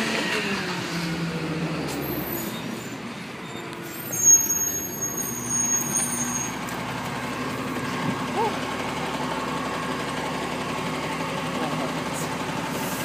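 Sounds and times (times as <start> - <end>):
garbage truck engine running: 0.0 - 13.0.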